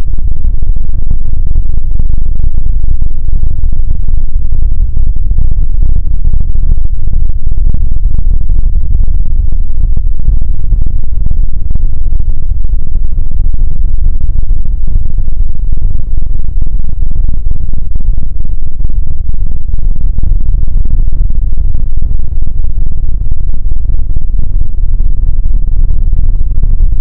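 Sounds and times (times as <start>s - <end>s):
deep distorted rumble: 0.0s - 27.0s.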